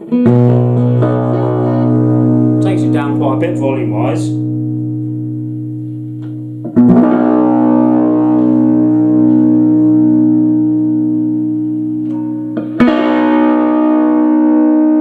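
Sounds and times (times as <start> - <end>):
electric guitar chord strummed: 0.0 - 15.0.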